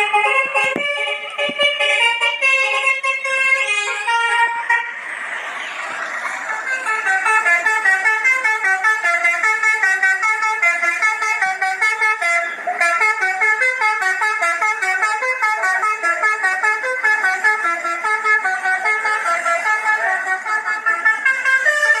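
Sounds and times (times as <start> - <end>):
musical bus horn melody: 0.0 - 5.6, 6.4 - 22.0.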